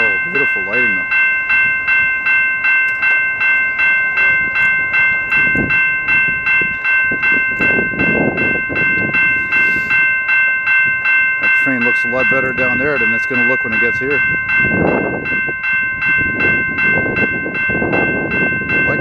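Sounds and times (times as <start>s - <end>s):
low rumble of diesel train: 0.0s - 19.0s
railroad crossing bell ringing: 0.0s - 19.0s.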